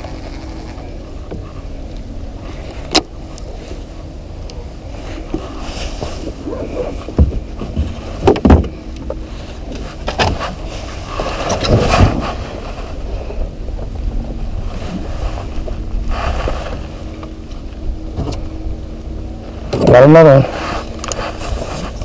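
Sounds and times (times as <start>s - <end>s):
faint steady hum: 0.0s - 22.0s
wind and water rumble: 0.0s - 22.0s.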